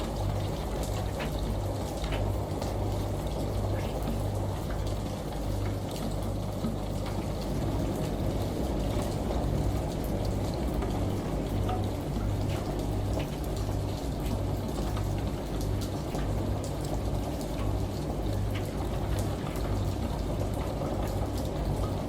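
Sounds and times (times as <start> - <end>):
rain pattering: 0.0 - 22.0
washing machine low hum: 0.0 - 22.0
water running: 0.0 - 22.0.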